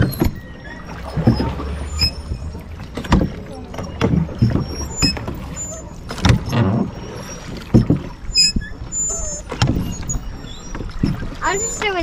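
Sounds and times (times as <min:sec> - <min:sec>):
oars knocking in rowlocks: 0:00.0 - 0:12.0
water washing: 0:00.0 - 0:12.0.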